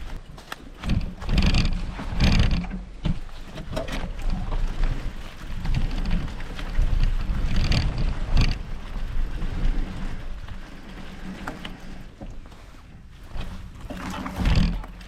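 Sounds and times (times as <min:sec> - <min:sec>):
bike rattling over rough ground: 0:00.0 - 0:15.0
wind rumbling on microphone: 0:00.0 - 0:15.0.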